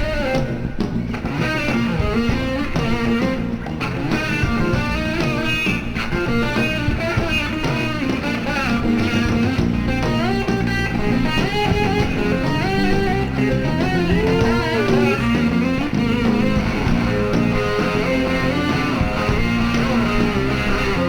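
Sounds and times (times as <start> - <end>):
bass guitar: 0.0 - 21.0
drums: 0.0 - 21.0
electric slide guitar melody: 0.0 - 21.0.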